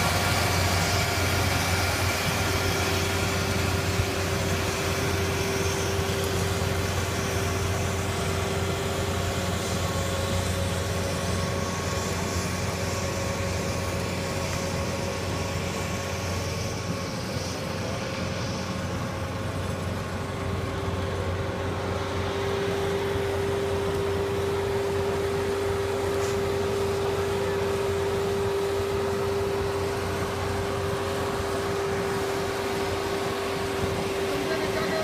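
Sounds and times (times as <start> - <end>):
tractor drive whine: 0.0 - 35.0
tractor tilling: 0.0 - 35.0.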